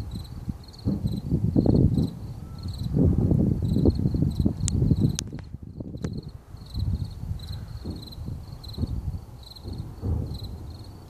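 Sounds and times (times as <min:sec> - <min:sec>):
crickets chirping: 0:00.0 - 0:11.0
distant fireworks booming: 0:00.0 - 0:11.0.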